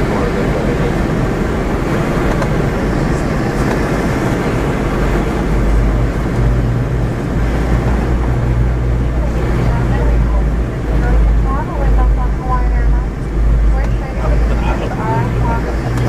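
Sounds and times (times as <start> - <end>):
airplane cabin rumble and hiss: 0.0 - 16.0.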